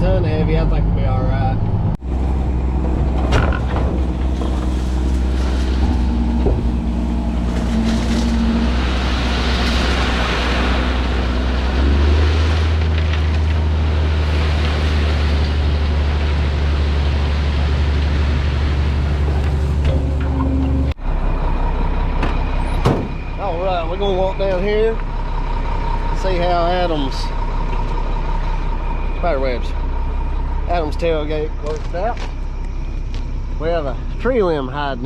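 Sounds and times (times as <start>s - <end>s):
truck diesel engine droning: 0.0s - 35.0s.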